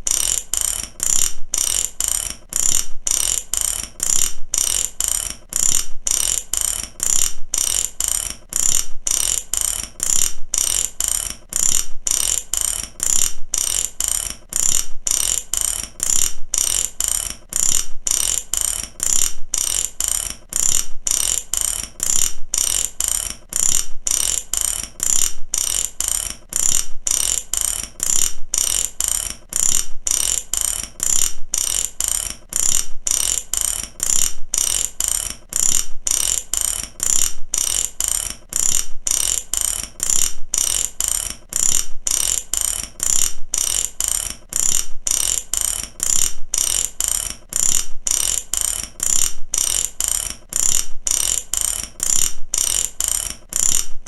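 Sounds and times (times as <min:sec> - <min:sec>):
ratchet wrench clicking: 0:00.0 - 0:54.0.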